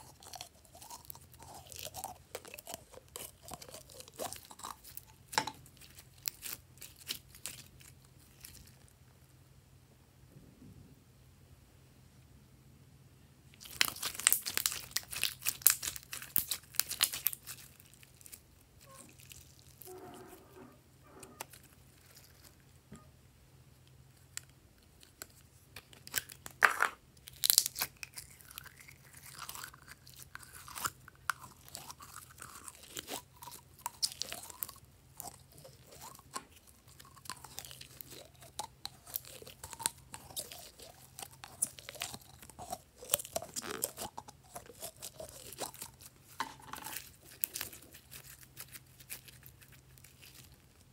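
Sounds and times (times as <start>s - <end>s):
slime crackling and popping: 0.0s - 8.8s, 13.6s - 19.9s, 24.2s - 50.9s.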